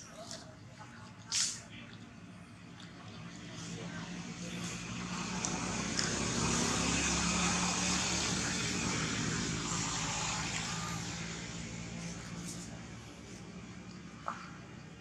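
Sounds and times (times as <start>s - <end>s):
motor vehicle passing by: 2.5s - 15.0s.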